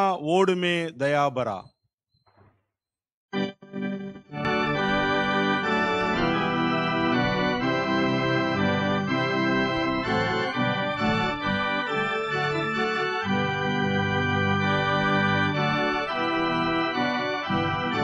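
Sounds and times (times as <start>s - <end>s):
electronic organ playing hymn: 3.3s - 18.0s.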